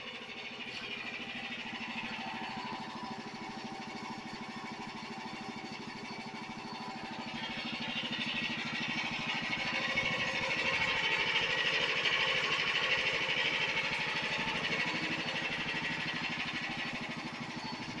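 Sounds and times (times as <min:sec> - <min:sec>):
small tractor engine running: 0:00.0 - 0:18.0.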